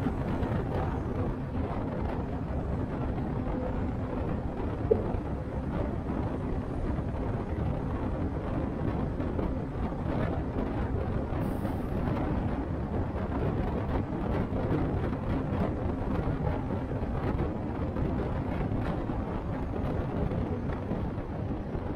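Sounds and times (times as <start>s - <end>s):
bus engine and road noise: 0.0s - 21.9s.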